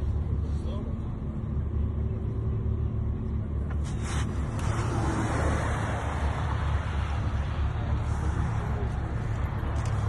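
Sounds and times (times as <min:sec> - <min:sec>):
car engine rumble: 0:00.0 - 0:10.0
road and wind noise: 0:00.0 - 0:10.0.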